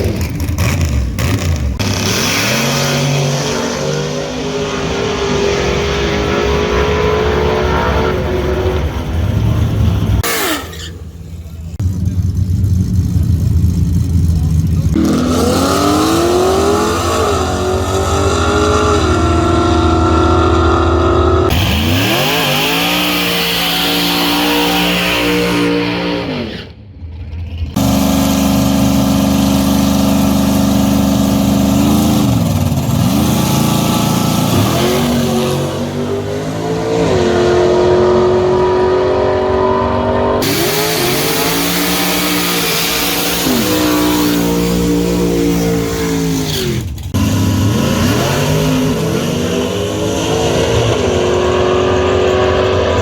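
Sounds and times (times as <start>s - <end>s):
truck engines revving hard: 0.0s - 53.0s.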